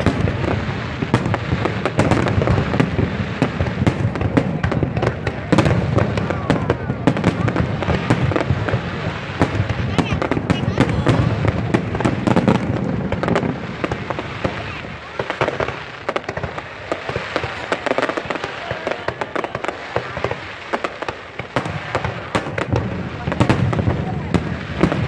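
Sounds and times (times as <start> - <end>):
fireworks booming shells: 0.0 - 25.0
fireworks crackling and popping: 0.0 - 25.0.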